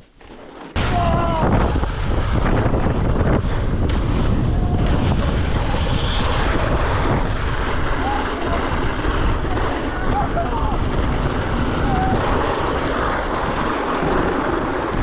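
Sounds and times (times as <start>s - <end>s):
wind buffeting microphone: 0.7s - 15.0s.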